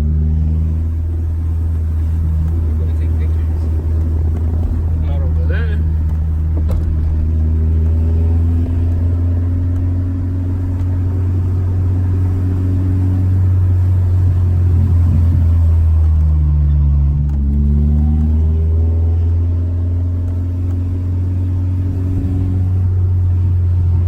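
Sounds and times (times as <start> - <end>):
car engine humming: 0.0 - 24.0.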